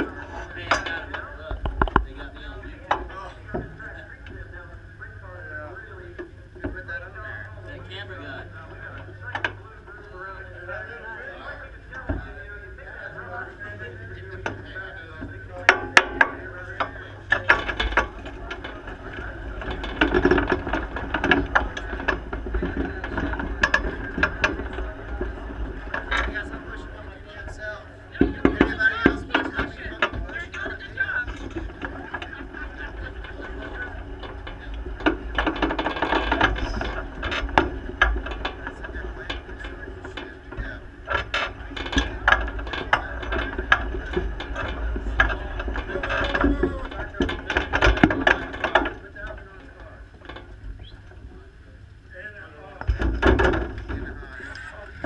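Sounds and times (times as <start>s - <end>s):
chassis rattling and knocking: 0.0s - 55.0s
low engine rumble: 0.0s - 55.0s
mechanical clicks and clanks: 6.0s - 52.0s, 52.7s - 55.0s.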